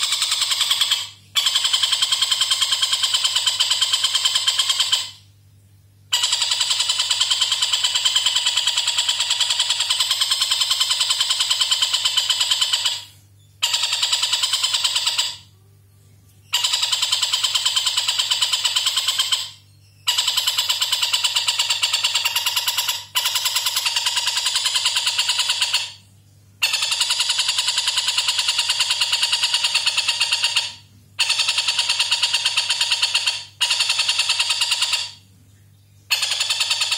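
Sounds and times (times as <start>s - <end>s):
faint steady hum: 0.0s - 36.2s.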